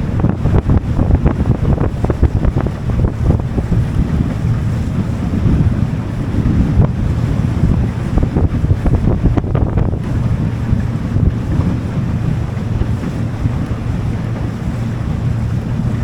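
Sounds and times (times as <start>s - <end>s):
low engine rumble: 0.0s - 16.0s
water rushing along hull: 0.0s - 16.0s
water slapping hull: 0.0s - 16.0s
wind buffeting microphone: 0.0s - 16.0s.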